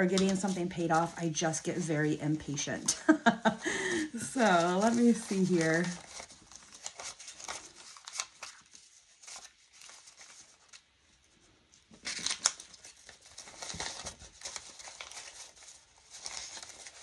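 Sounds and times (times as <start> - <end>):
paper bills rustling: 0.0 - 2.9, 4.2 - 11.0, 11.8 - 17.0.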